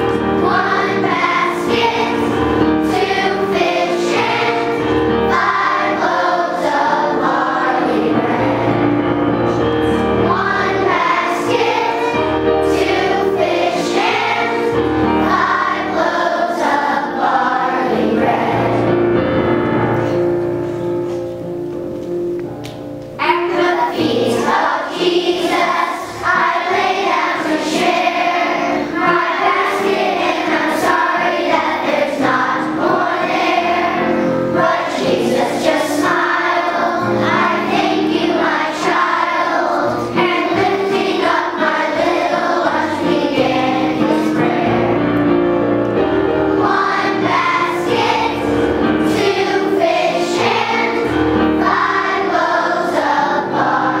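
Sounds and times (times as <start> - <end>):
children's choir singing a hymn: 0.0 - 21.8, 23.2 - 54.0.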